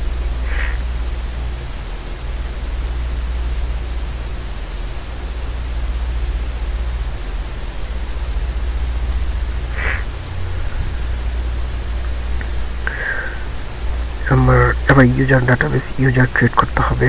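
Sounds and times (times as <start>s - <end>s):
low hum: 0.0s - 17.0s
microphone hiss: 0.0s - 17.0s.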